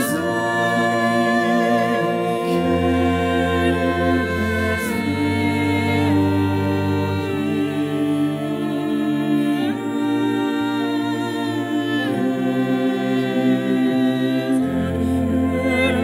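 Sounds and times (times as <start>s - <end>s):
unaccompanied choir singing: 0.0s - 16.0s.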